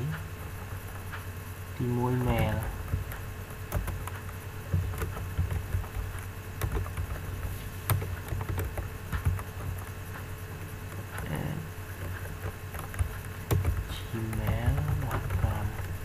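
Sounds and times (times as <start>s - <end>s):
steady low hum: 0.0s - 16.0s
keyboard keystrokes: 2.2s - 10.2s, 10.9s - 16.0s.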